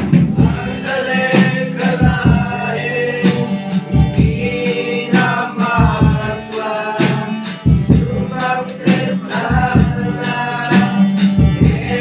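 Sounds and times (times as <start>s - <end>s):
acoustic guitar: 0.0s - 12.0s
group of young voices singing: 0.0s - 12.0s
steady beat: 0.0s - 12.0s.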